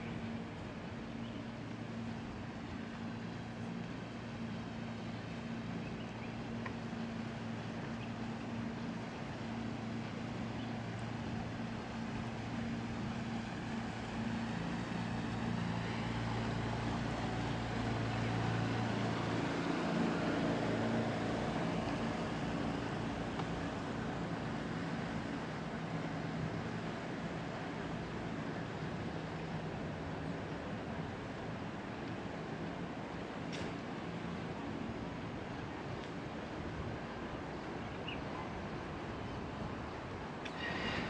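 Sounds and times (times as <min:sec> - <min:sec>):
outdoor noise: 0:00.0 - 0:41.0.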